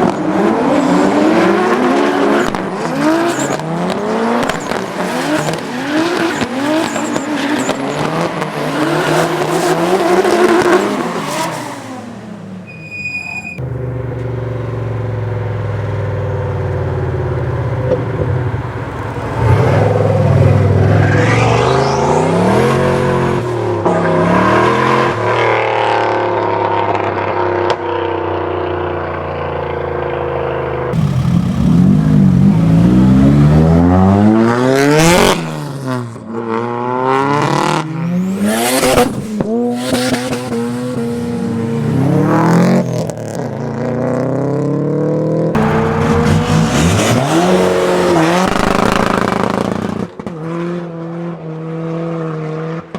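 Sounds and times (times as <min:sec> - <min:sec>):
car engines accelerating and revving: 0:00.0 - 0:12.8, 0:13.6 - 0:52.9.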